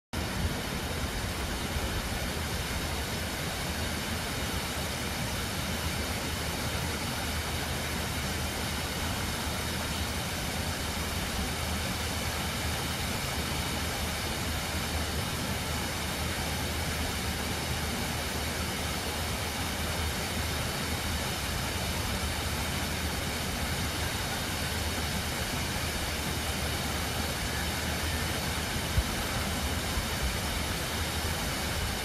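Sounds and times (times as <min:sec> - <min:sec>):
waterfall roaring: 0:00.2 - 0:32.0.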